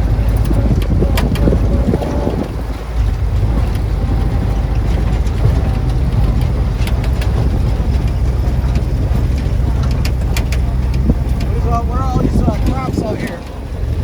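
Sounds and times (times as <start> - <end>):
jeep engine droning: 0.0 - 14.0
road and wind noise: 0.0 - 14.0.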